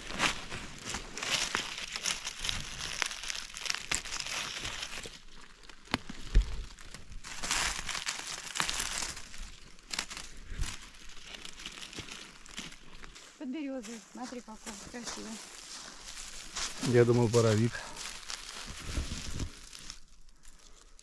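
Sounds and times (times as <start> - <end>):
twigs snapping: 0.0 - 13.2, 14.7 - 21.0
dry vegetation rustling: 0.0 - 21.0.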